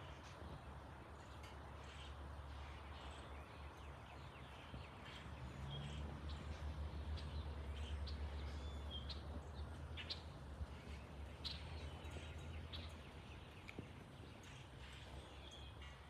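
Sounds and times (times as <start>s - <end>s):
faint jet airliner rumble: 0.0s - 16.0s.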